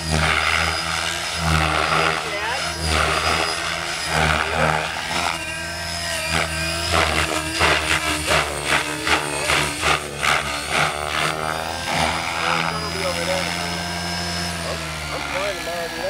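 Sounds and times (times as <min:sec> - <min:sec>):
model helicopter rotor and motor whine: 0:00.0 - 0:16.0.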